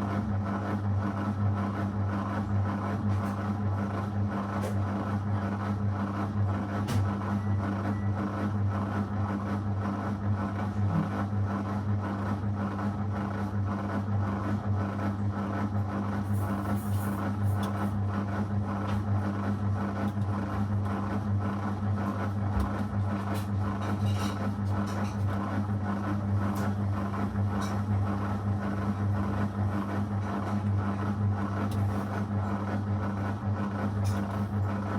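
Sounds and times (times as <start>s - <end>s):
washing machine running: 0.0s - 34.9s.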